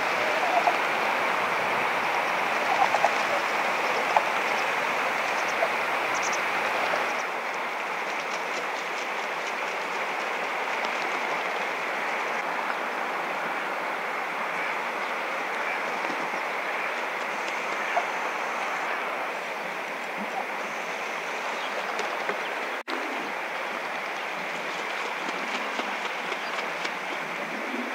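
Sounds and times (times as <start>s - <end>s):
swans calling: 0.0s - 7.7s, 9.4s - 27.9s
flowing water rushing: 0.0s - 27.9s.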